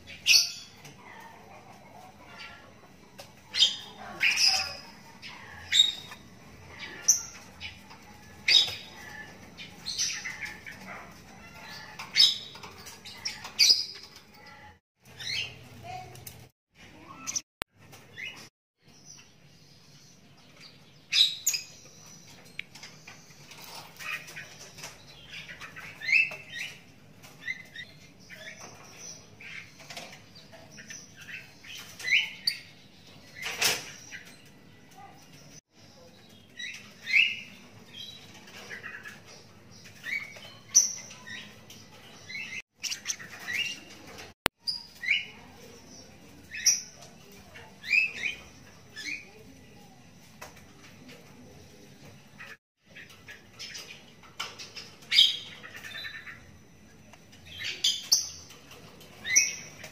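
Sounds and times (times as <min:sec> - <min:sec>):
bird chick chirping: 0:00.0 - 0:49.6.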